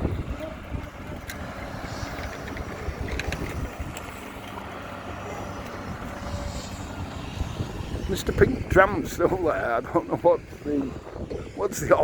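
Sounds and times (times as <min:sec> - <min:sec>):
engine hum: 0:00.0 - 0:12.0
low gusty rumble: 0:00.0 - 0:12.0.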